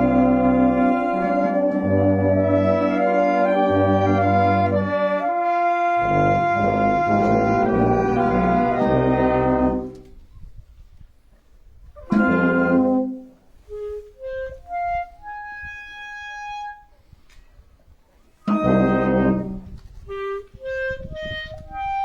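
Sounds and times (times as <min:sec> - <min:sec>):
wind band playing chords: 0:00.0 - 0:10.1, 0:12.0 - 0:17.0, 0:18.4 - 0:22.0.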